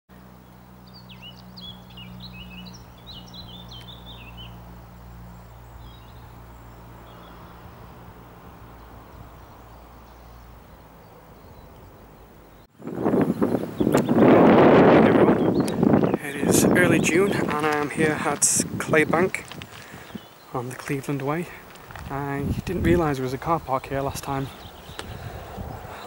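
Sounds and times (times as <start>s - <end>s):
songbird rapid chirping song: 0.1s - 26.0s.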